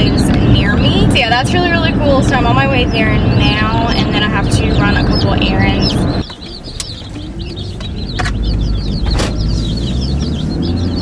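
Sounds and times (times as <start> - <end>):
baby chicks peeping: 0.0 - 11.0
car road noise hum: 0.0 - 11.0.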